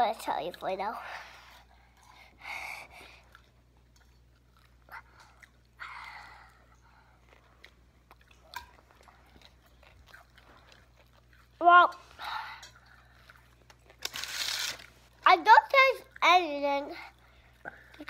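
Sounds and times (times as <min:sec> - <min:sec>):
child chewing softly: 0:00.5 - 0:15.2, 0:15.9 - 0:18.0.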